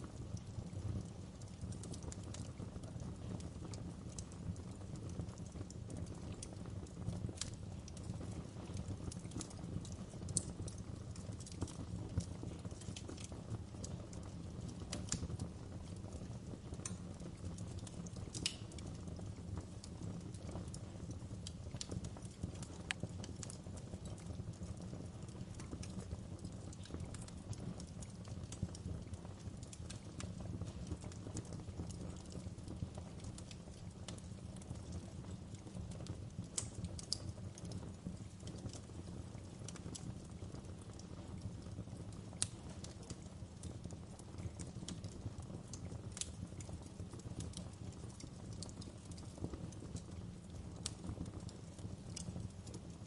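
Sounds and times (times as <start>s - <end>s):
burning logs popping and snapping: 0.0s - 53.0s
fire flames rumbling: 0.0s - 53.0s.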